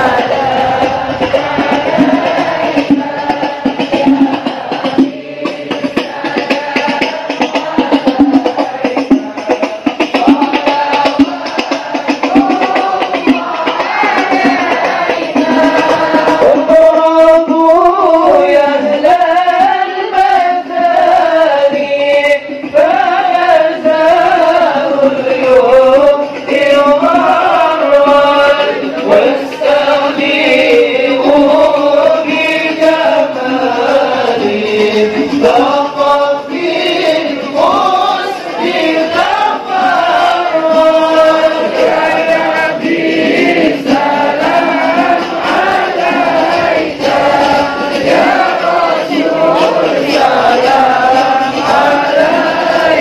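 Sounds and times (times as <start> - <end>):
devotional chanting: 0.0 - 53.0.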